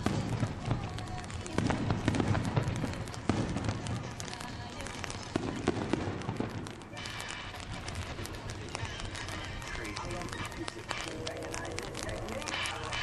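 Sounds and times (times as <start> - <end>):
firework bangs and crackles: 0.0 - 13.0.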